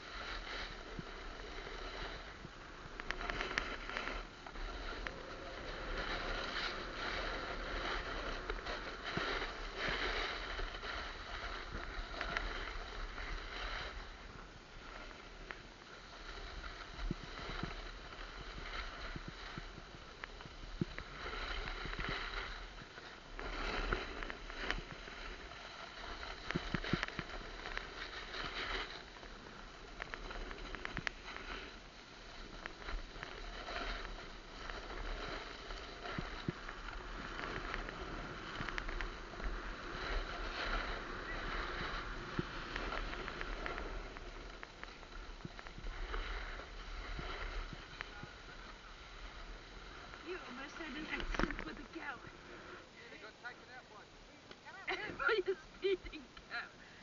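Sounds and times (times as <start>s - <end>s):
snowboard scraping on snow: 0.0s - 54.0s, 54.7s - 57.0s.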